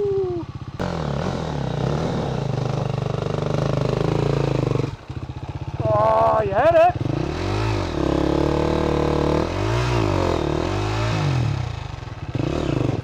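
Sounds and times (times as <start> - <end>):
dirt bike engine revving: 0.6 - 13.0.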